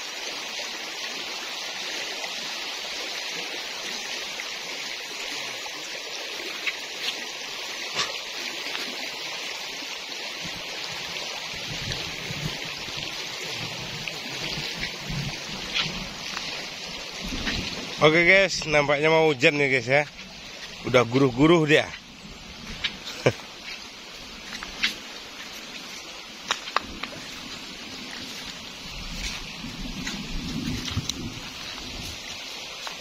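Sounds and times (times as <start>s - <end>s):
stream rushing over stones: 0.0s - 33.0s.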